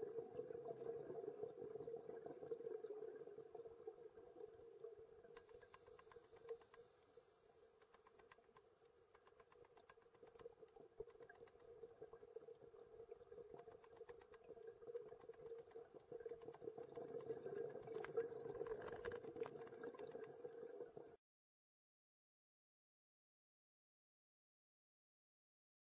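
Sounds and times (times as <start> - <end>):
low underwater hum: 0.0 - 21.2
small underwater clicks and crackles: 0.0 - 21.2.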